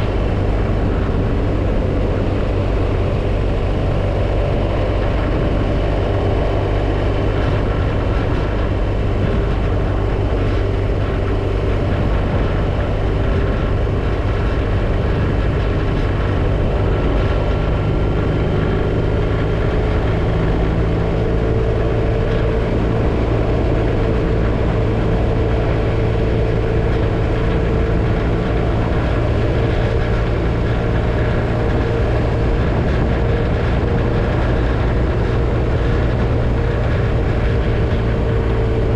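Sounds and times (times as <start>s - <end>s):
motorcycle engine cruising: 0.0s - 38.9s
road noise: 0.0s - 38.9s
wind noise: 0.0s - 38.9s.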